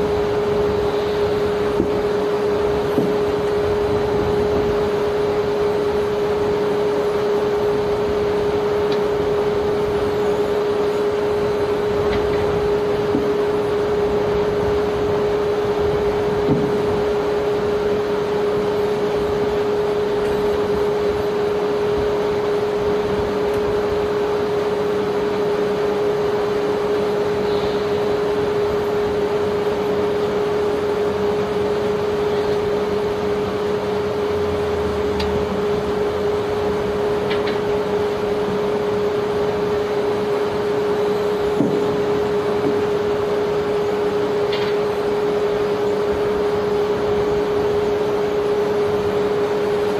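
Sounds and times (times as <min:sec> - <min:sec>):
broad rushing noise: 0:00.0 - 0:49.9
machinery hum with whine: 0:00.0 - 0:49.9.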